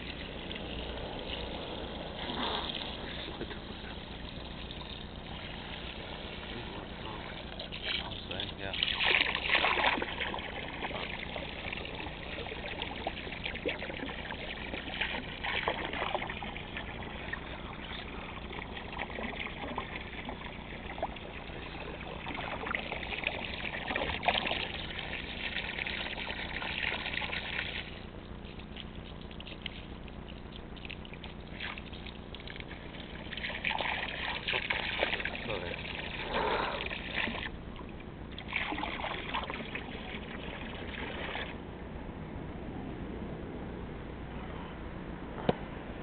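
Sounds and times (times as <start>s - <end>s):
small splashes: 0.0s - 41.6s
water trickling into pond: 0.0s - 41.6s.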